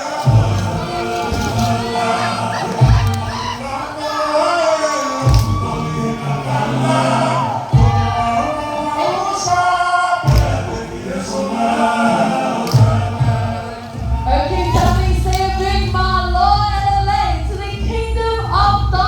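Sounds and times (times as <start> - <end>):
music with deep beat: 0.0 - 4.0, 5.2 - 9.2, 10.2 - 11.6, 12.6 - 19.0
group of voices singing: 0.0 - 19.0.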